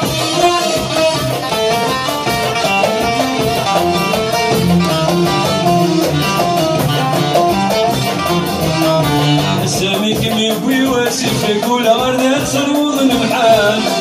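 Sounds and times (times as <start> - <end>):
plucked lute melody: 0.0 - 12.4.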